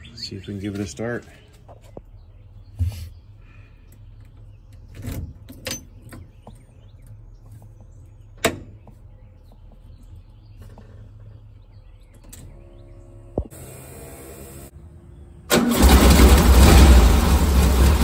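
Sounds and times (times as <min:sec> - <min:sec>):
birds chirping: 0:00.0 - 0:13.5, 0:14.4 - 0:15.8.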